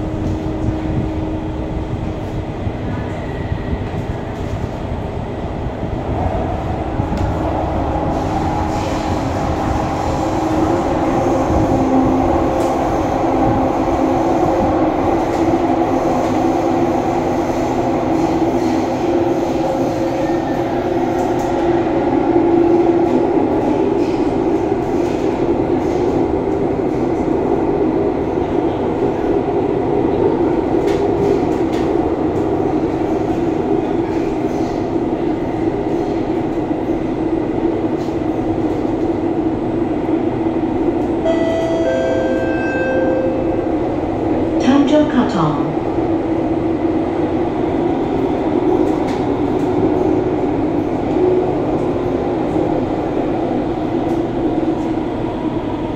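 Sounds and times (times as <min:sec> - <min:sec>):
metro train rumbling in tunnel: 0:00.0 - 0:55.9.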